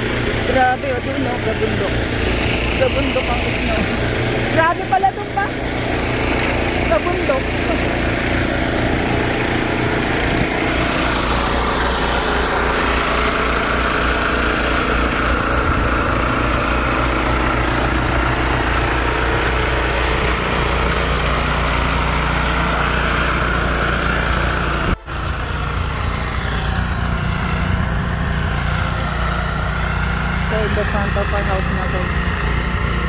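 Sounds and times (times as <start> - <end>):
snowblower engine running: 0.0 - 33.0.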